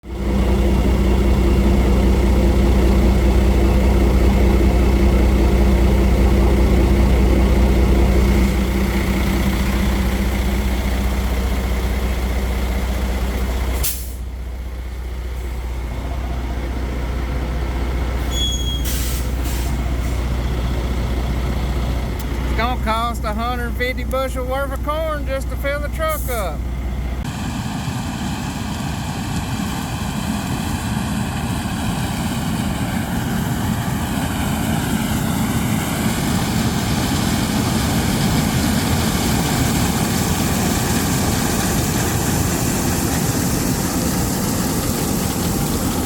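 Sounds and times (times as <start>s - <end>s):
heavy vehicle engine running: 0.0s - 46.0s.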